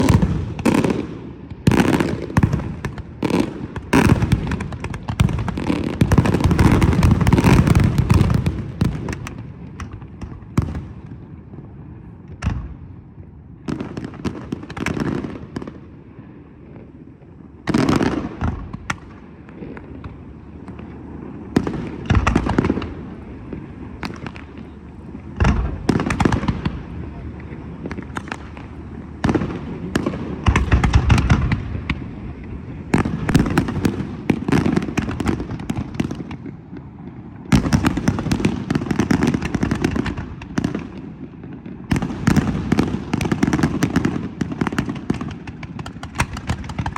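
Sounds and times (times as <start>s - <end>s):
fireworks bangs: 0.0s - 15.9s, 17.6s - 46.9s.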